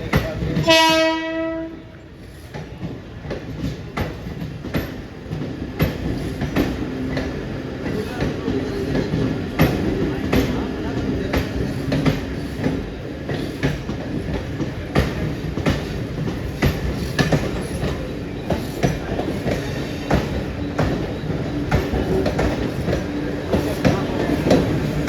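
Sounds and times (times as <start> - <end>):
train wheels clicking over rail joints: 0.0 - 1.6, 2.2 - 25.0
train rumble: 0.0 - 25.0.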